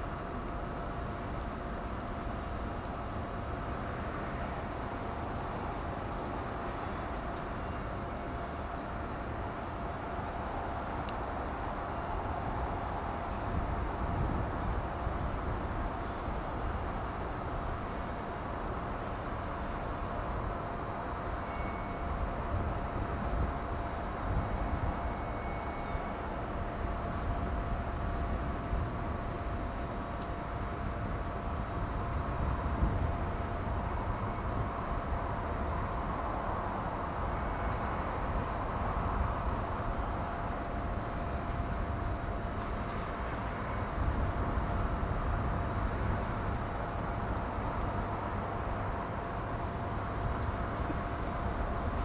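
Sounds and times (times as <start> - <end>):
constant mid-pitched hum: 0.0 - 52.0.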